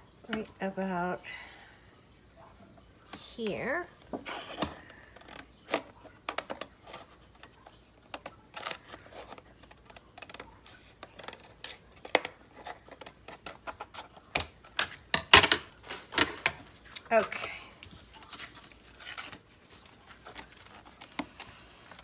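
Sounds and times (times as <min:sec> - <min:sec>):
paper and plastic packaging crackling: 0:03.5 - 0:22.0.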